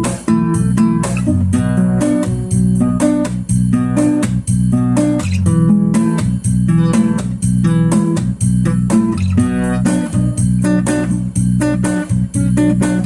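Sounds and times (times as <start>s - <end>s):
plucked guitar music with beat: 0.0s - 13.0s.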